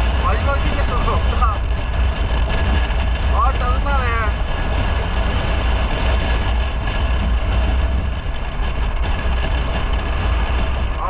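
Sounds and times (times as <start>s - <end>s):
motorcycle riding on road: 0.0s - 11.0s.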